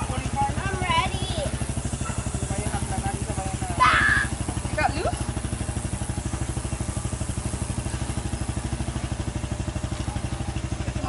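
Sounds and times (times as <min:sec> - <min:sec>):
go-kart engine idling: 0:00.0 - 0:11.0.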